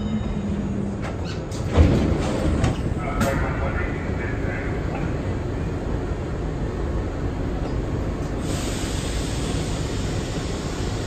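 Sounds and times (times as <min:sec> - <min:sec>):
subway wheels rumbling on rail: 0:00.0 - 0:11.0.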